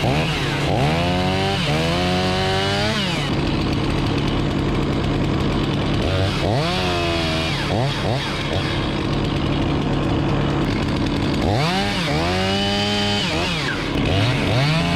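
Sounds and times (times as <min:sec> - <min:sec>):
chainsaw revving: 0:00.0 - 0:14.9.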